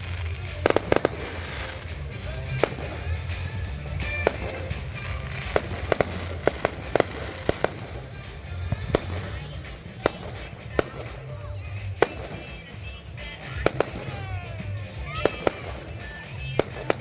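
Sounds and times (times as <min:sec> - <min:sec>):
background music: 0:00.0 - 0:17.0
firecracker pops: 0:00.0 - 0:17.0.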